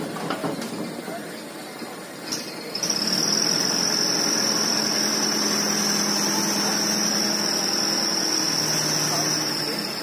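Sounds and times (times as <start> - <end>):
diesel truck engine running: 0.0 - 10.0
high-pitched hydraulic whine: 0.0 - 10.0.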